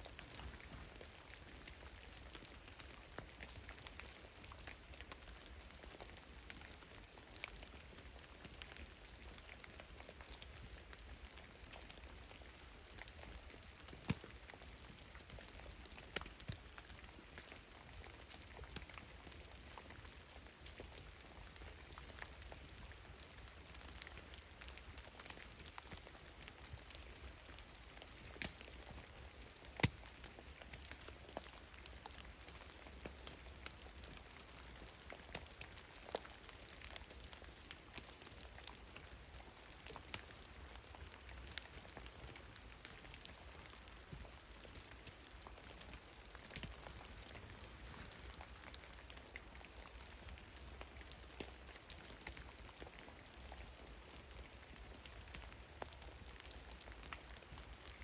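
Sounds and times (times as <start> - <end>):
faint steady hiss: 0.0 - 58.0
meltwater dripping from snow: 0.0 - 58.0.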